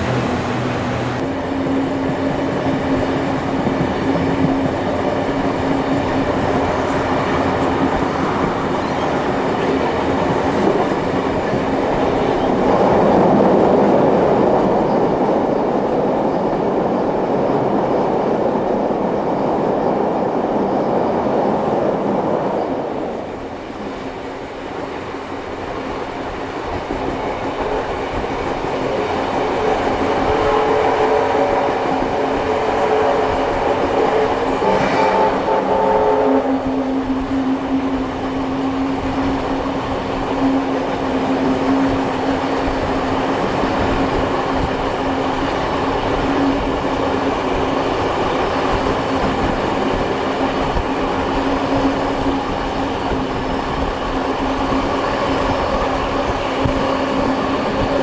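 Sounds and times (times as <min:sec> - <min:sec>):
train wheels clickety-clack: 0:00.0 - 0:58.0
train wheels rumbling on rails: 0:00.0 - 0:58.0.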